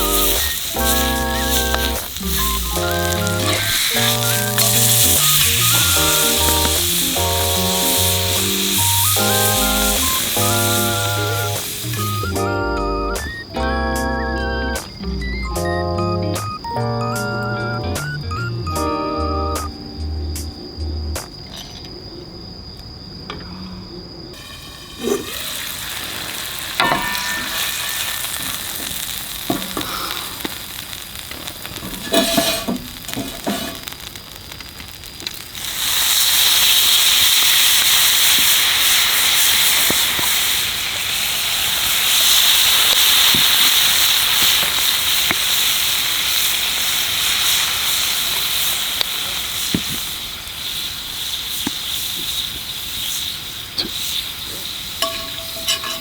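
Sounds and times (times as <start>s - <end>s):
steak sizzling over campfire: 0.0s - 21.2s, 24.4s - 56.0s.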